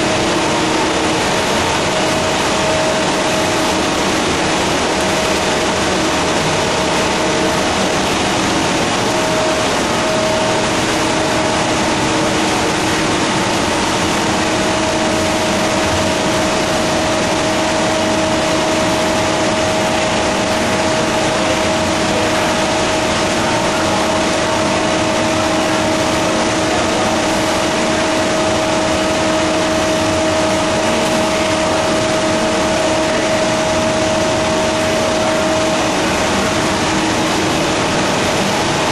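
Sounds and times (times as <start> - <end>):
paper machine din with hum: 0.0 - 38.9.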